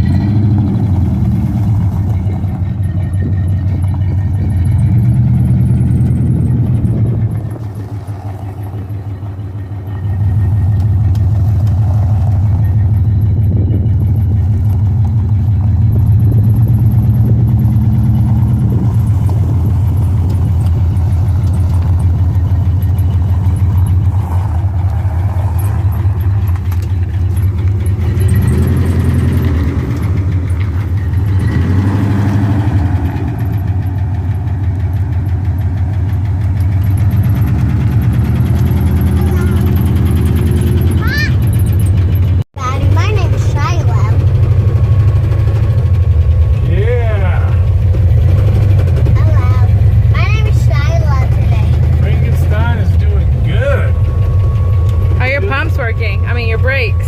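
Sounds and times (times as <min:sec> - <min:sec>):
pickup engine running: 0:00.0 - 0:57.0.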